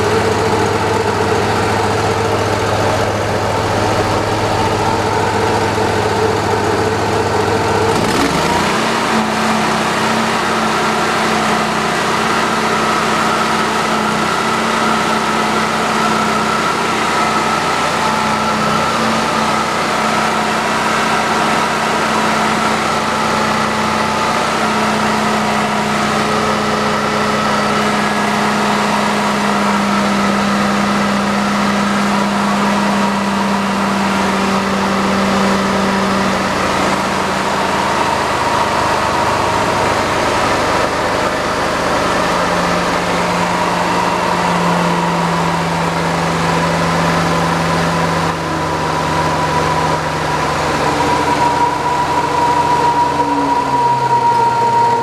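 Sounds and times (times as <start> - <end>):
carpet cleaning machine engine running: 0.0 - 55.0
steady machine whine: 0.0 - 55.0.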